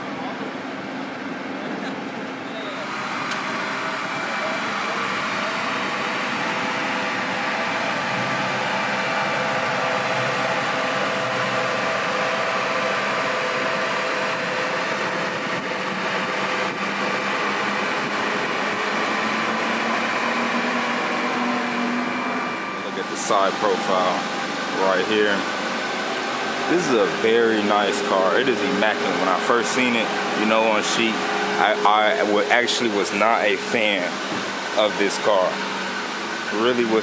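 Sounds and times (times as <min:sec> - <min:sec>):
mechanical whirring hum: 0:00.0 - 0:37.0.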